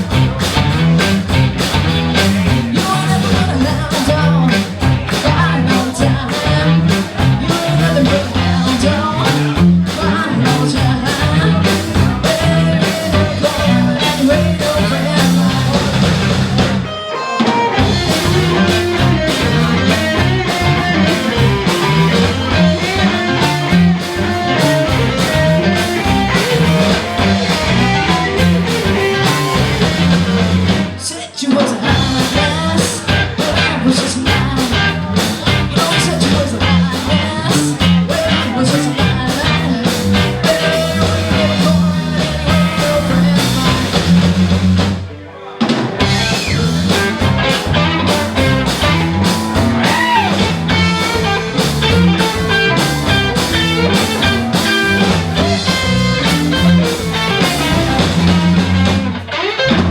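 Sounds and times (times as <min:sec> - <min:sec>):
rock and roll band playing: 0:00.0 - 0:59.9
person singing: 0:02.1 - 0:44.3, 0:45.3 - 0:58.9.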